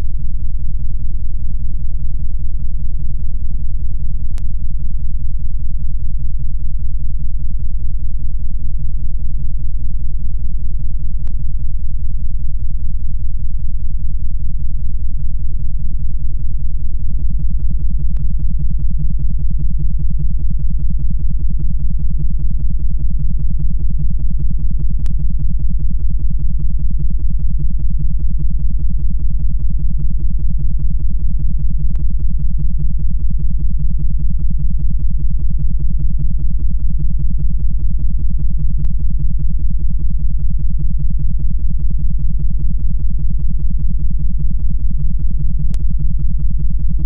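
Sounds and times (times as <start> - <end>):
pulsing synthesized bass drone: 0.0 - 47.0.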